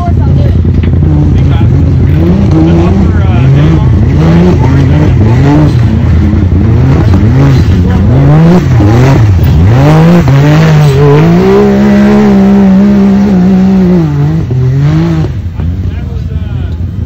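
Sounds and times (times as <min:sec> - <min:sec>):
engine revving under load: 0:00.0 - 0:15.8.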